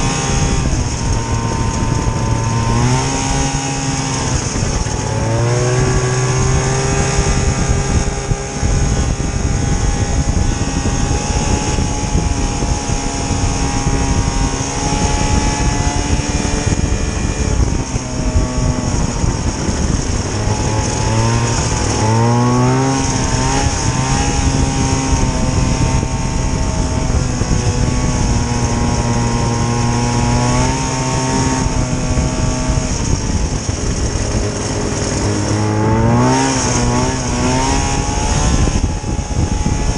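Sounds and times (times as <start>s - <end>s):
snowmobile two-stroke engine running: 0.0s - 39.9s.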